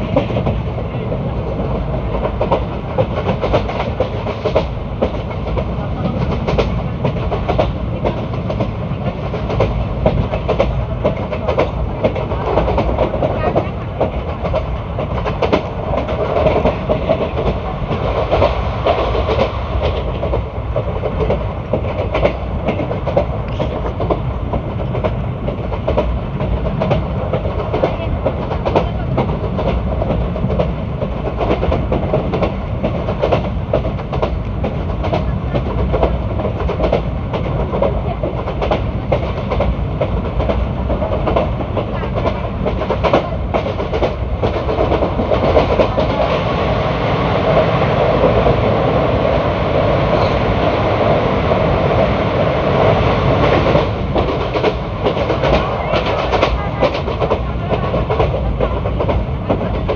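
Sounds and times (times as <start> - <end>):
train coach rumbling on track: 0.0 - 59.9.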